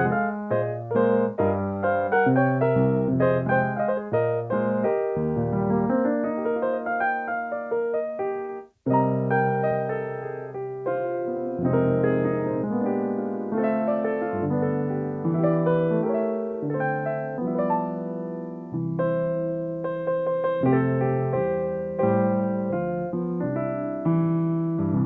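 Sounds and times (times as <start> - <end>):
solo piano playing chords: 0.0 - 25.0.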